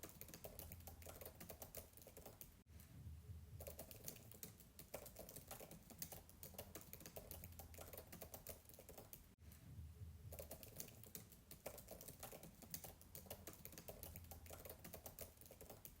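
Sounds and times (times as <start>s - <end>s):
fast keyboard typing: 0.0s - 2.6s, 3.6s - 9.3s, 10.4s - 16.0s.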